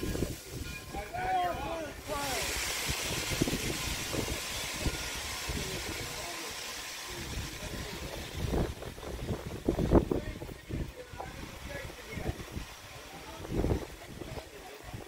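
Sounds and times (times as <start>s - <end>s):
steady hiss: 0.0s - 15.0s
train cars knocking and clunking: 2.1s - 14.5s.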